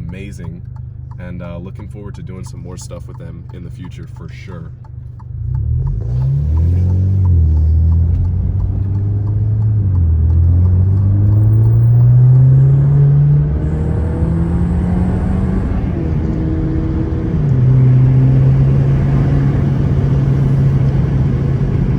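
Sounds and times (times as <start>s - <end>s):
car engine accelerating hard: 0.0s - 21.9s.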